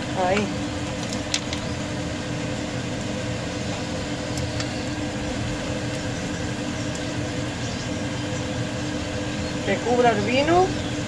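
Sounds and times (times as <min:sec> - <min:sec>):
meat simmering in a frying pan: 0:00.0 - 0:11.0
mechanical fan hum: 0:00.0 - 0:11.0.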